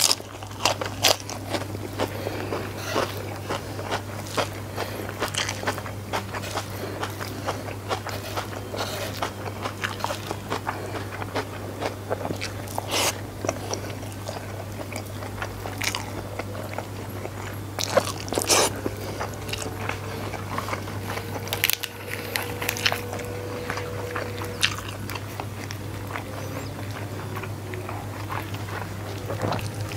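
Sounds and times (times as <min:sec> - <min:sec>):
person chewing and biting: 0:00.0 - 0:29.9
steady low hum: 0:00.0 - 0:29.9.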